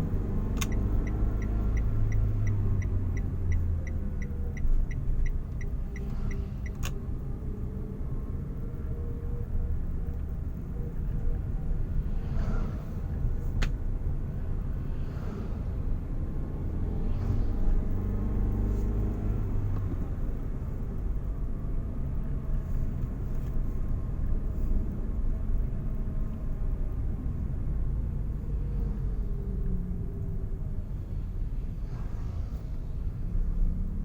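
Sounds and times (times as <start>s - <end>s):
car engine: 0.0s - 34.0s
road rumble: 0.0s - 34.0s.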